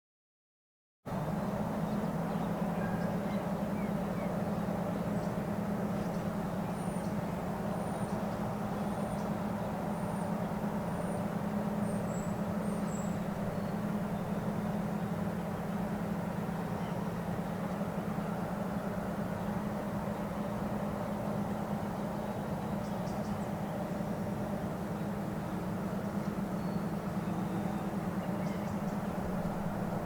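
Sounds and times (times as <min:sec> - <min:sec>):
low outdoor hum: 0:01.1 - 0:30.0.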